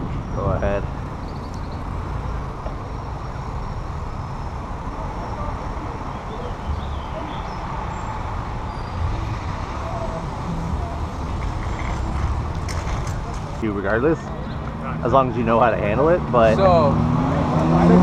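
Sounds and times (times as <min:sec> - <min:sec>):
traffic noise: 0:00.0 - 0:18.0
wind and road noise: 0:00.0 - 0:18.0.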